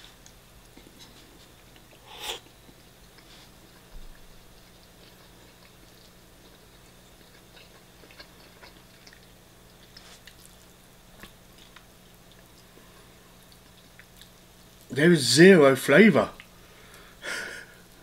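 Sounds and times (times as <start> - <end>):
chewing food: 0.1 - 14.9.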